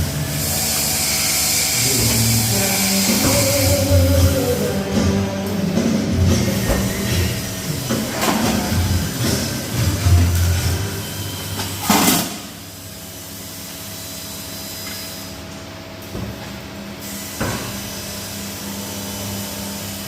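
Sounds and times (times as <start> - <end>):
workshop machinery humming: 0.0 - 20.0.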